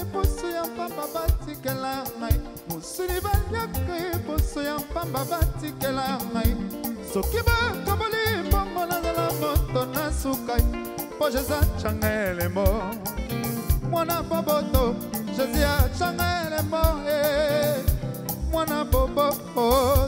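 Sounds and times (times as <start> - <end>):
african pop music with steady beat: 0.0 - 20.0
person singing: 0.0 - 20.0.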